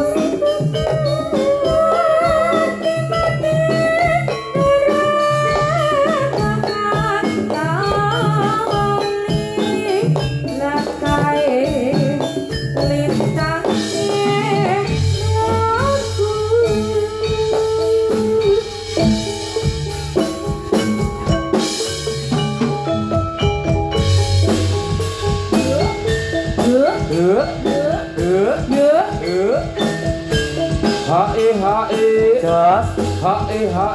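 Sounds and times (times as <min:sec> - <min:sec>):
gamelan melody: 0:00.0 - 0:33.9
steady drumming: 0:00.0 - 0:33.9.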